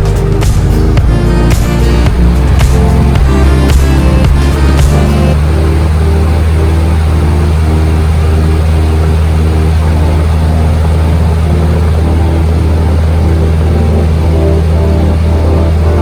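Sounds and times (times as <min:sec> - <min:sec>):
airplane engine and propeller drone: 0:00.0 - 0:16.0
background music: 0:00.0 - 0:16.0.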